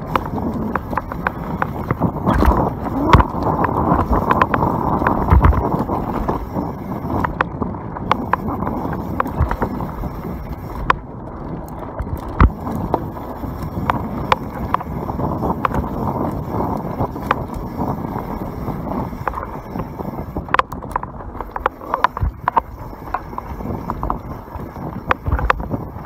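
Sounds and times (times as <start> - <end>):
bike rattling clicks: 0.0 - 26.0
tyres rolling over dirt: 0.0 - 26.0
wind on microphone: 0.0 - 26.0.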